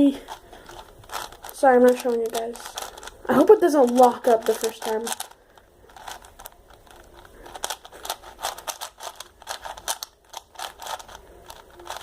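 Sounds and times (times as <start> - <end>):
puzzle cube layers clicking: 0.3 - 12.0.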